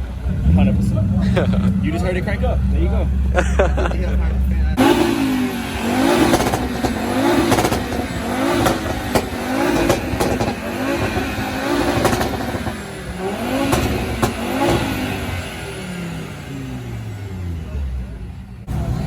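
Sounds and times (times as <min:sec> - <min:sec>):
car engine revving: 0:00.0 - 0:19.0
exhaust cracks: 0:00.0 - 0:19.0.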